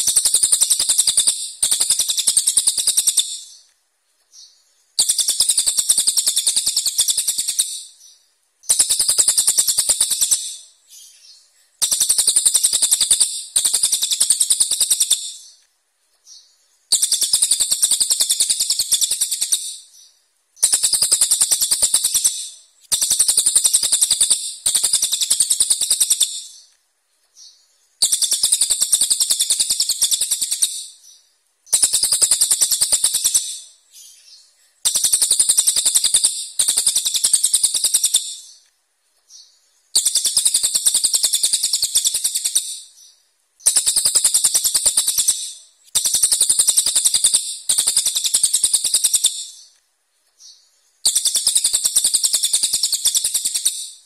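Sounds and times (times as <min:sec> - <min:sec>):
songbird singing rapid bursts: 0:00.0 - 0:03.7, 0:04.3 - 0:38.7, 0:39.3 - 0:49.8, 0:50.4 - 0:54.0.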